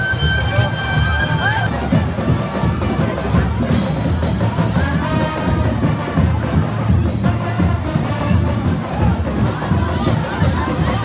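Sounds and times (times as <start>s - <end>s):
drum beat: 0.0s - 11.0s
loud live music: 0.0s - 11.0s.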